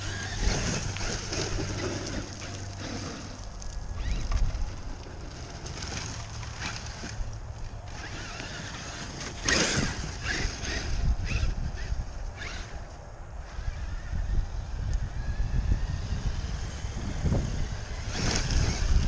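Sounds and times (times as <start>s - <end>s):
rc truck motor and tyres: 0.0s - 19.0s.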